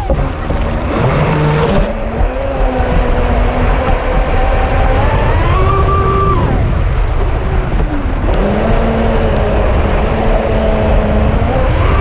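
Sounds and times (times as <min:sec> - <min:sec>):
model boat motor whining: 0:00.0 - 0:12.0
water rushing: 0:00.0 - 0:12.0
wind on microphone: 0:00.0 - 0:12.0.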